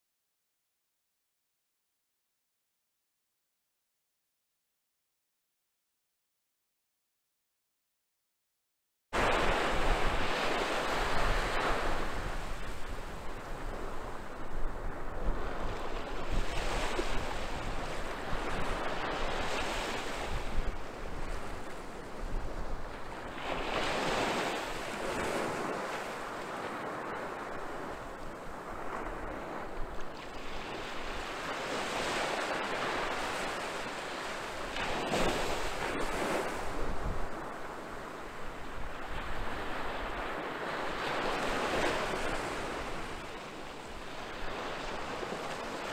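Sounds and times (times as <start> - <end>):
sea waves breaking on beach: 9.2 - 45.9
wind rumbling on microphone: 9.2 - 45.9.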